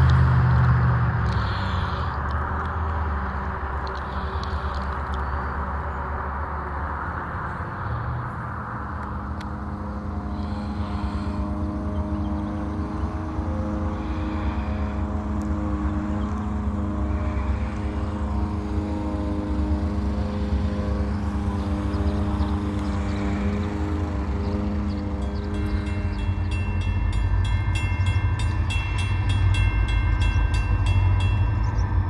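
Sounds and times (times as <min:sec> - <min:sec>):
distant diesel locomotives droning: 0:00.0 - 0:32.0.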